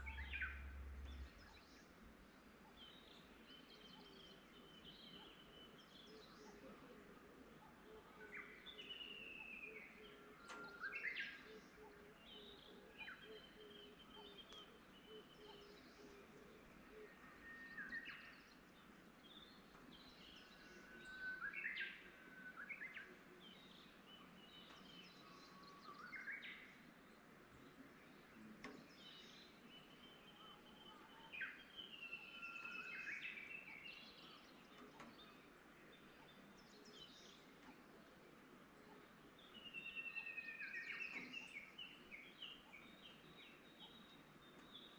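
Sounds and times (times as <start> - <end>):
faint outdoor hush: 0.0 - 44.9
songbirds singing: 0.0 - 44.9.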